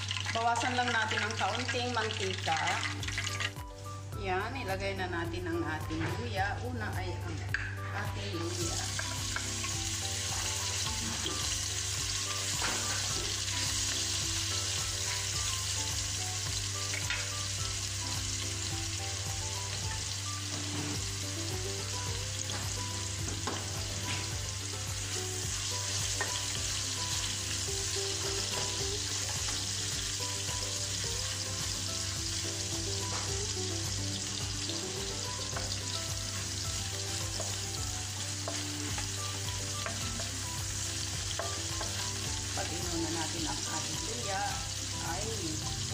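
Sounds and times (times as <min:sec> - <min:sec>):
ginger sizzling in hot oil: 0:00.0 - 0:45.9.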